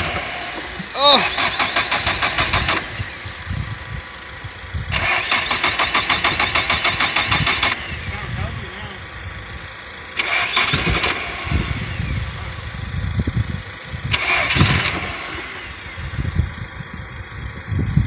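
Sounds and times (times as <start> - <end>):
car engine cranking and sputtering: 0.0 - 18.0.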